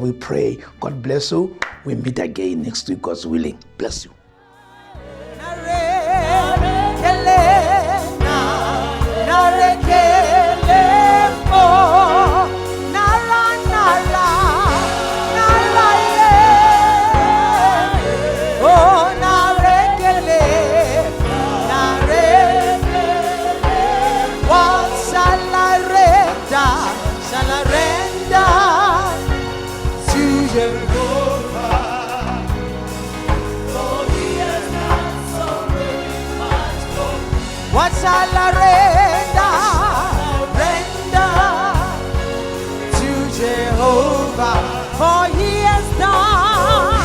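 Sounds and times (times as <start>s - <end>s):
person singing gospel: 2.4s - 47.0s
band with bass and beat: 5.2s - 47.0s.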